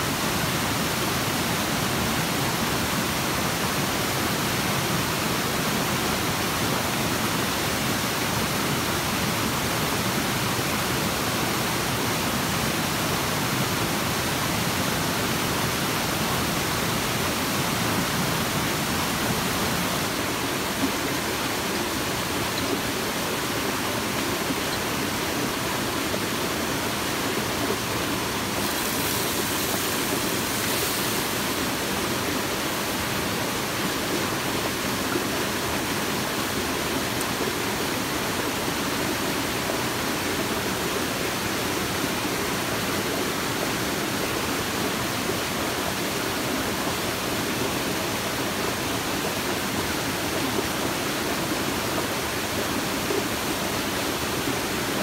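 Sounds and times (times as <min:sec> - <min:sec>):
high water hiss: 0:00.0 - 0:55.0
water rushing over rocks: 0:00.0 - 0:55.0.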